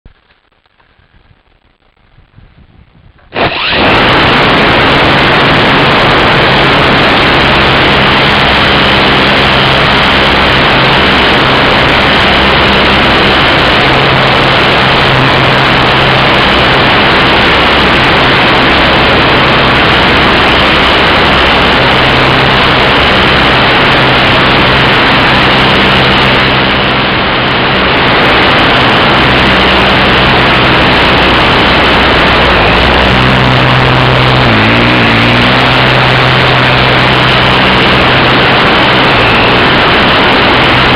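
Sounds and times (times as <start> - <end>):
wind rush over microphone: 0.1 - 40.9
electric motor and propeller: 0.2 - 40.9.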